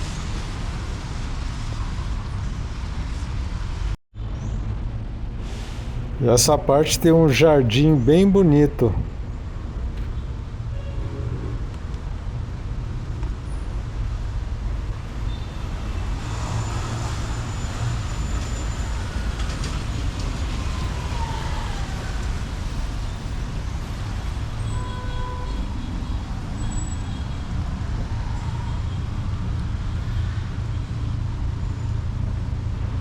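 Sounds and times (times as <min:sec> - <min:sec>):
low rumble of traffic: 0:04.2 - 0:33.0.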